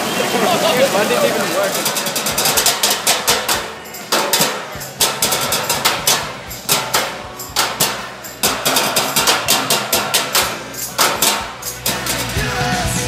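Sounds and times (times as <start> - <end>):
drumsticks beating metal trash cans: 0.6 - 13.0.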